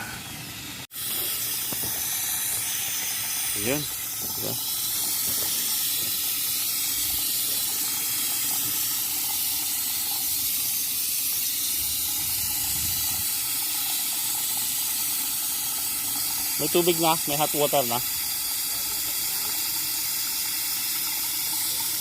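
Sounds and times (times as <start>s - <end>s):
water rushing through pipes: 0.0s - 22.0s.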